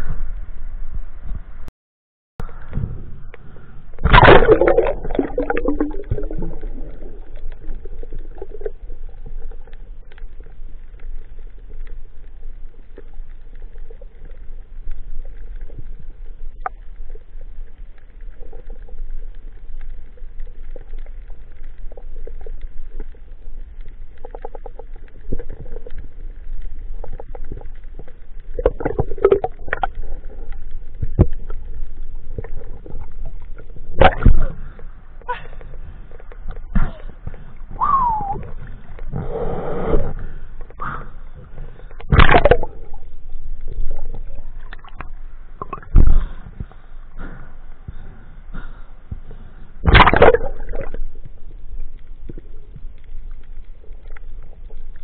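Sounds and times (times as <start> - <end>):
muffled underwater rumble: 0.0 - 1.7, 2.4 - 55.0
faint underwater clicks and crackles: 2.4 - 55.0
water splashing: 2.7 - 48.3, 49.3 - 55.0.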